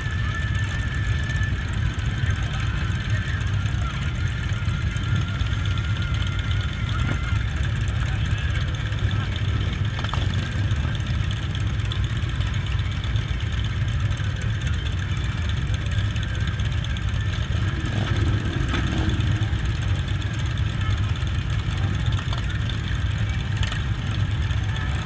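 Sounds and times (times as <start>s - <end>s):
motorcycle engines idling: 0.0s - 25.0s.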